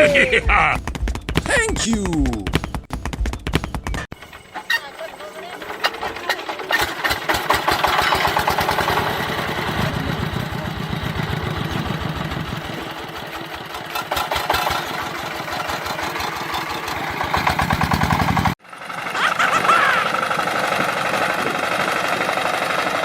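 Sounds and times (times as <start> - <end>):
small engine puttering: 4.1 - 23.0.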